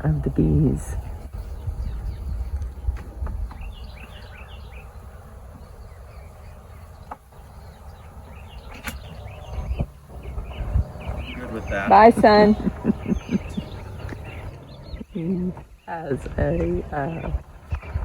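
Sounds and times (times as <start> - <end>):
birds chirping: 0.0 - 18.0
distant truck engine rumble: 0.0 - 18.0
honey bees humming: 0.0 - 18.0.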